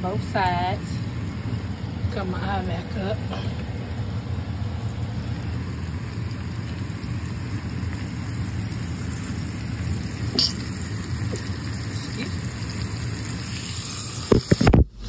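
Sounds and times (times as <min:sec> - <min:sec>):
steak sizzling in oil: 0:00.1 - 0:14.6.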